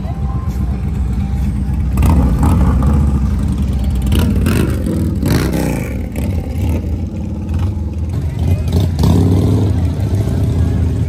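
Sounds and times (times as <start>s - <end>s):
motorcycle engines running: 0.0s - 11.0s
motorcycle engine revving: 1.0s - 11.0s.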